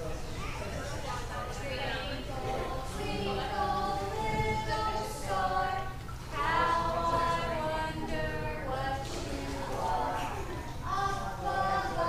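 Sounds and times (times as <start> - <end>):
group singing unaccompanied: 1.4 - 12.0.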